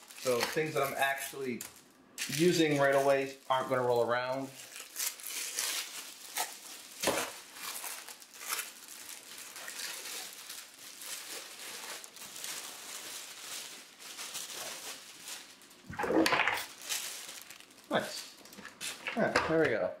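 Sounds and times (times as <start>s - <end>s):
plastic wrapping crinkling: 0.0s - 19.6s.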